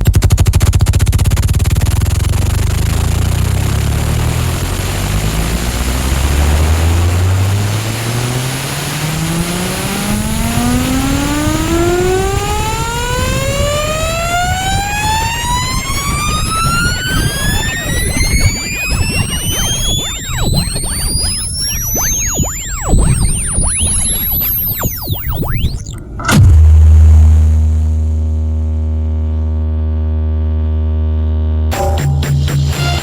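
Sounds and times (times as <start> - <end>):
deep pulsing bass: 0.0 - 33.0
rising tone sweep: 2.0 - 29.6.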